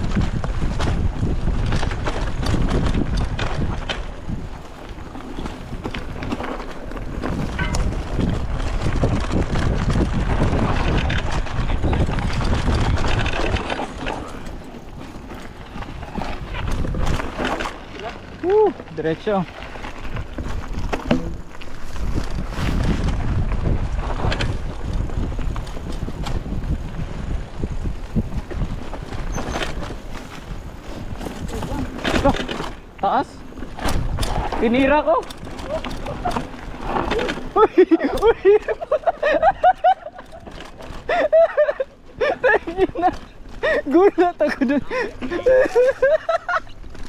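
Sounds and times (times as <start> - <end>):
bike rattling and knocking: 0.0 - 47.0
wind rushing over microphone: 0.0 - 47.0.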